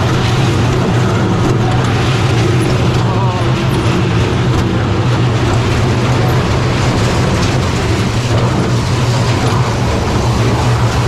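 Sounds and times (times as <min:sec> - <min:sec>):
roller coaster wheels rumbling: 0:00.0 - 0:11.0.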